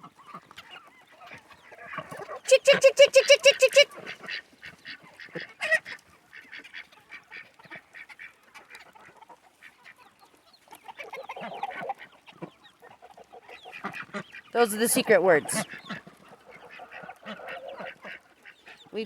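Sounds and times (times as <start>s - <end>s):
poultry clucking and honking: 0.0s - 19.0s.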